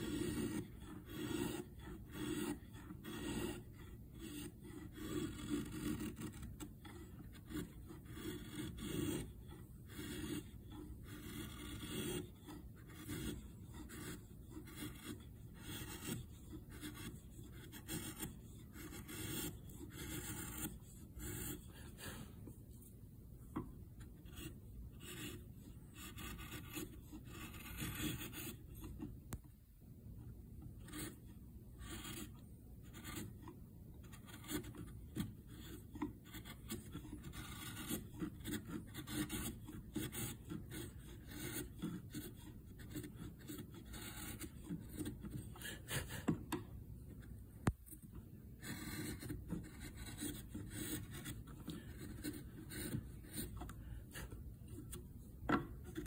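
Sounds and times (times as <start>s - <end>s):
chisel scraping wood: 0.0s - 29.4s, 30.5s - 56.0s.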